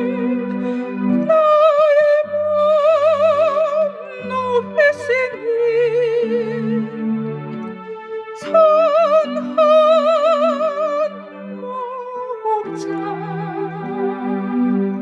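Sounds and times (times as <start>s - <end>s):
electronic keyboard playing a hymn: 0.0s - 15.0s.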